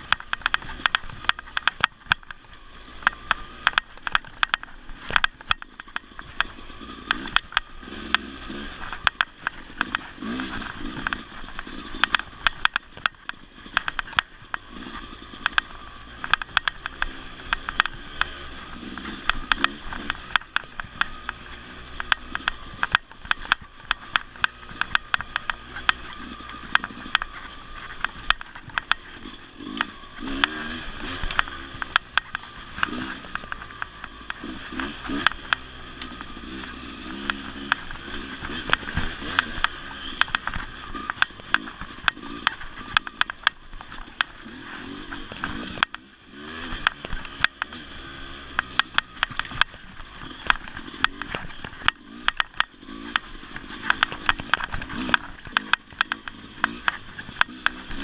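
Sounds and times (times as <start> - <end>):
bike rattling over bumps: 0.0 - 58.0
dirt bike engine revving: 0.0 - 58.0.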